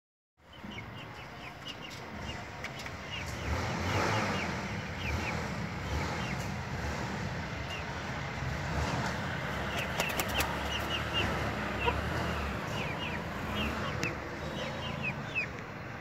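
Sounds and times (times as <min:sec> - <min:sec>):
small birds chirping: 0:00.4 - 0:08.2, 0:09.0 - 0:16.0.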